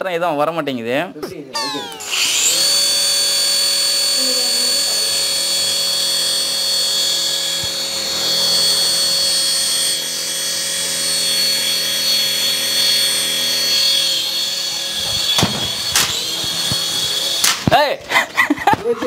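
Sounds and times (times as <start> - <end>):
toy helicopter rotor whine: 1.6 - 17.7.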